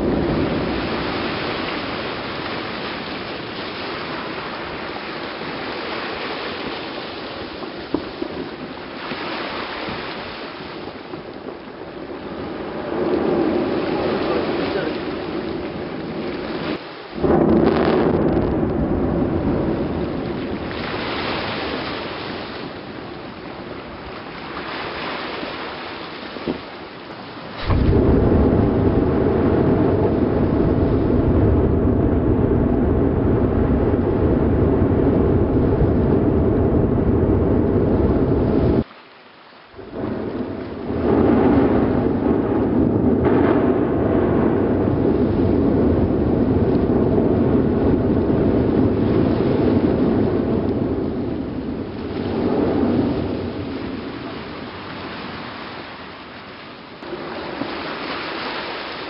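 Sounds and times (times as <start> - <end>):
volcano eruption roar: 0.0 - 24.6, 27.4 - 38.8, 39.8 - 55.5.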